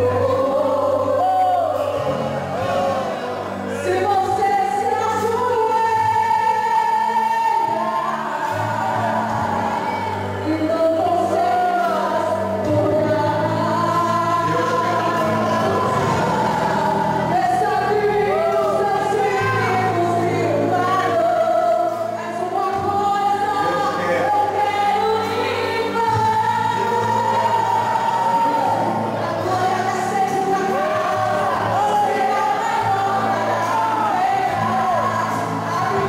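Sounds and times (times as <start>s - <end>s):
choir singing gospel music: 0.0s - 36.0s.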